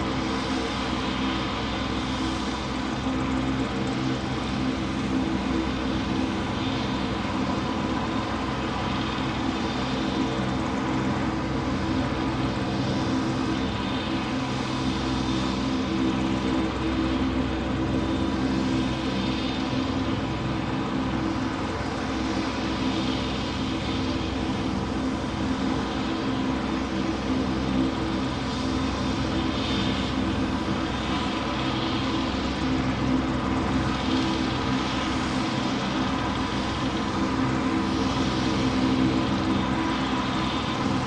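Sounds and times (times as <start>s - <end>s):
steady engine drone: 0.0s - 41.0s.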